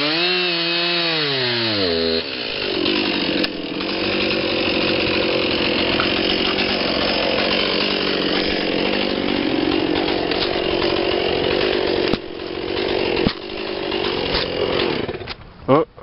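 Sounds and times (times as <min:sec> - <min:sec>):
chainsaw cutting wood: 0:00.0 - 0:15.4.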